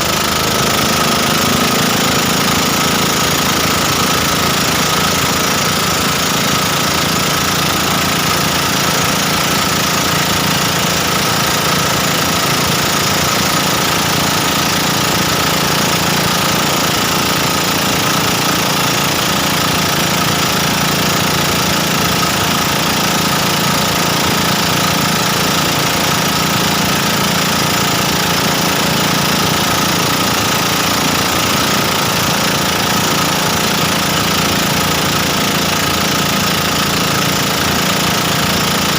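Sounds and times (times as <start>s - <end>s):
motorboat engine droning: 0.0s - 38.9s.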